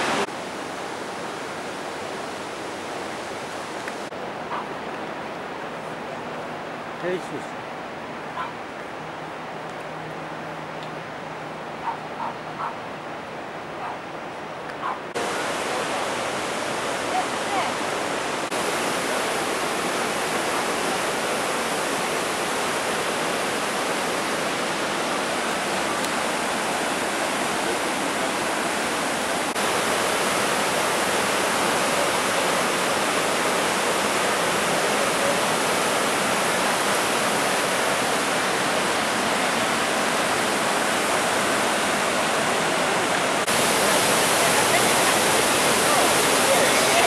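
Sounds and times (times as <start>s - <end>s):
waterfall rushing over rocks: 0.0s - 47.0s.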